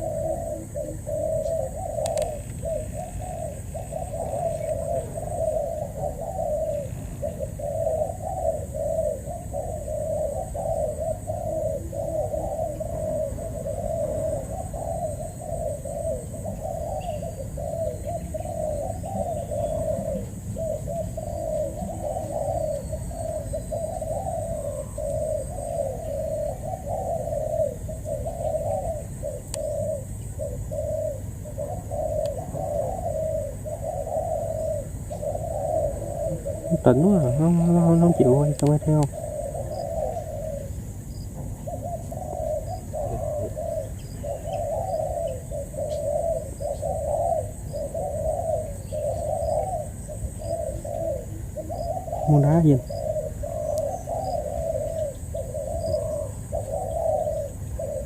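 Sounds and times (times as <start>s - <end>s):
doves cooing: 0.0s - 58.0s
small birds chirping: 0.0s - 58.0s.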